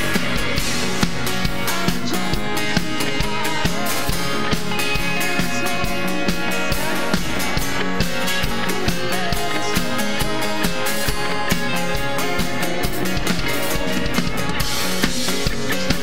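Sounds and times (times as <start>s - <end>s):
woman singing: 0.0s - 7.4s, 8.3s - 14.3s
drum kit beat: 0.0s - 16.0s
worship band playing: 0.0s - 16.0s.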